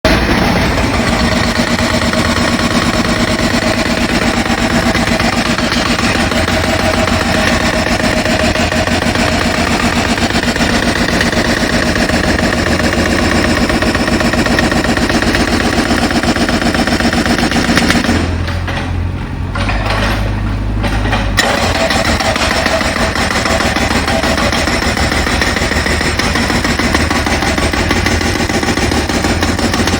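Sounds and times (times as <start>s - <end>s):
jackhammer hammering: 0.1s - 19.0s, 19.6s - 29.9s.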